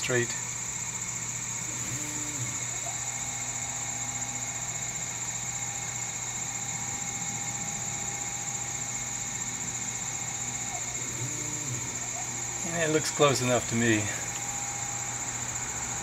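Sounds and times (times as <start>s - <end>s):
steady high-pitched hiss: 0.0s - 16.0s
stepper motor whining: 0.0s - 16.0s.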